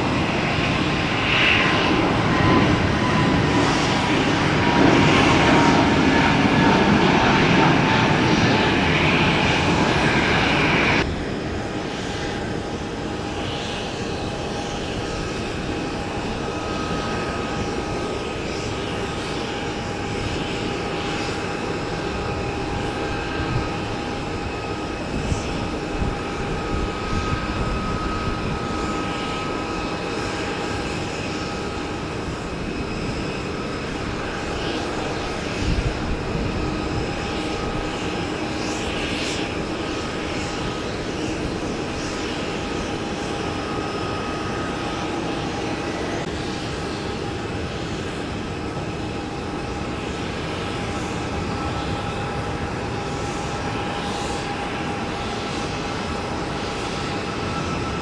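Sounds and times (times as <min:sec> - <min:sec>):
distant turboprop engine hum: 0:00.0 - 0:58.0.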